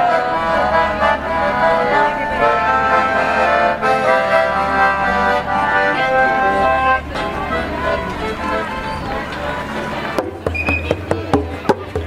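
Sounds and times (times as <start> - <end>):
accordion playing chords: 0.0 - 12.0.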